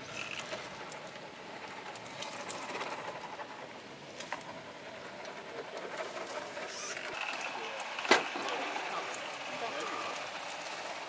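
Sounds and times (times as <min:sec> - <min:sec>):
small electric motor and gears running: 0:00.0 - 0:11.0.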